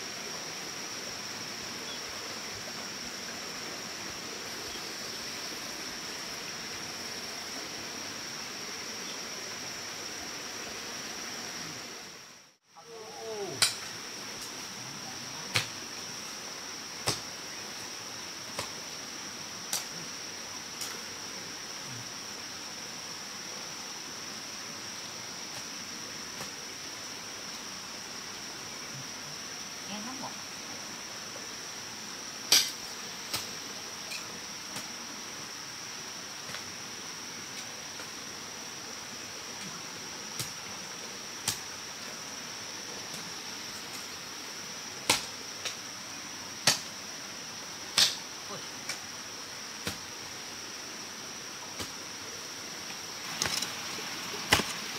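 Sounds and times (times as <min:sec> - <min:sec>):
insects droning: 0:00.0 - 0:54.9.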